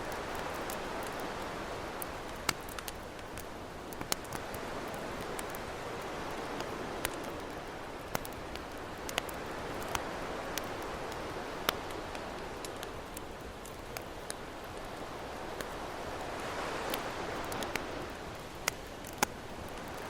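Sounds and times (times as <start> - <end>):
campfire crackling and popping: 0.0 - 20.0
ocean waves washing: 0.0 - 20.0.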